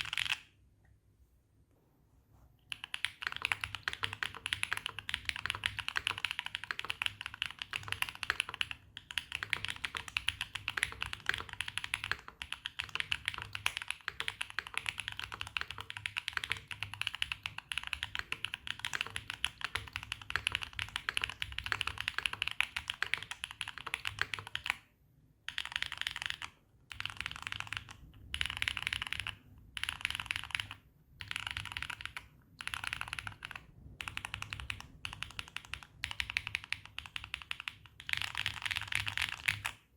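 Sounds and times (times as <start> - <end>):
typing on mechanical keyboard: 0.0 - 0.5, 2.7 - 24.8, 25.5 - 39.9.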